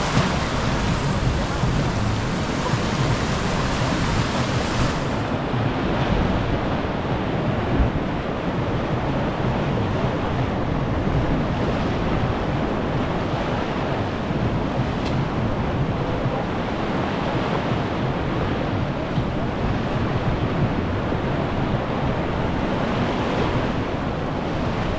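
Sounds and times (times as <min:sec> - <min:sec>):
river rapids rushing: 0:00.0 - 0:24.9
wind buffeting microphone: 0:00.0 - 0:24.9.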